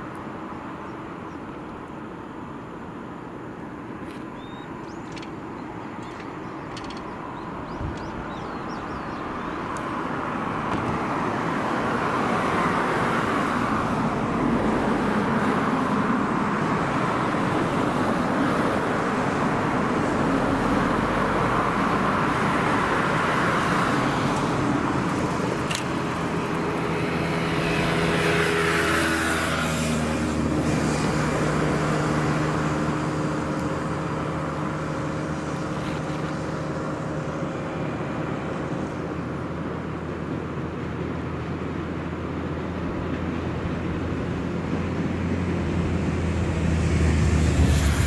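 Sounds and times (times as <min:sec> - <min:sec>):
passing vehicle whine: 0:00.0 - 0:48.0
traffic noise: 0:00.0 - 0:48.0.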